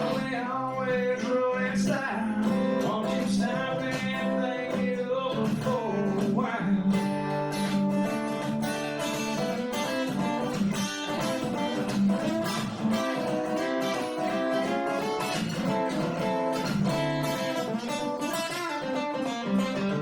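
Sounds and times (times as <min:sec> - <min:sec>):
guitar playing quick picked notes: 0:02.4 - 0:20.0.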